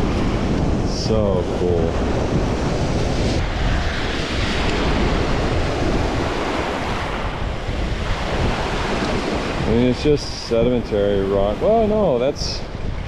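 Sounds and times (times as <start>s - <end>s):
waves washing onto beach: 0.0s - 13.0s
wind rumbling on microphone: 0.0s - 13.0s.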